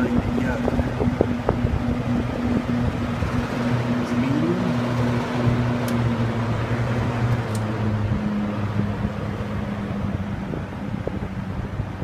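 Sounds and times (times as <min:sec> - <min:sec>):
box fans rushing air: 0:00.0 - 0:12.0
fan motor hum: 0:00.0 - 0:12.0.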